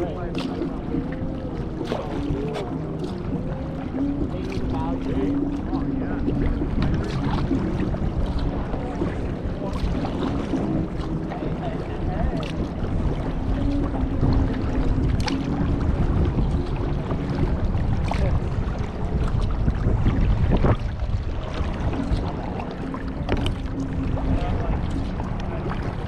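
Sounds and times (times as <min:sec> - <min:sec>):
paddle splashes: 0:00.0 - 0:26.0
wind rumbling on microphone: 0:00.0 - 0:26.0.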